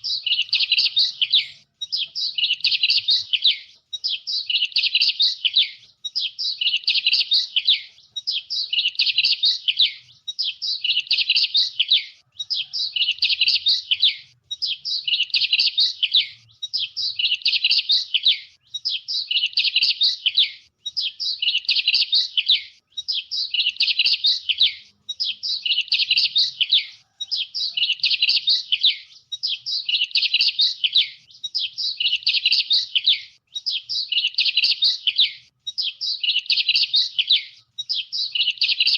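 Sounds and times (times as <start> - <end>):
songbird twittering: 0.0 - 38.9.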